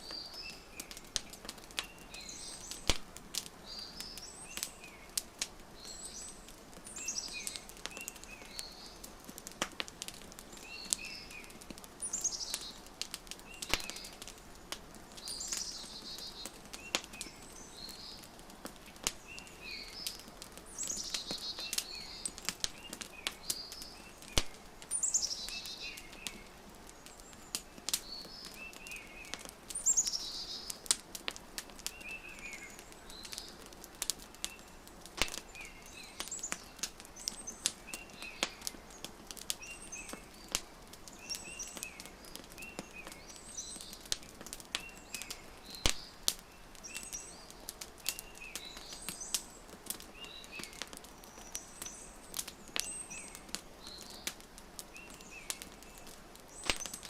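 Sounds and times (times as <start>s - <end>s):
songbirds calling: 0.0s - 57.0s
wood fire crackling: 0.0s - 57.0s.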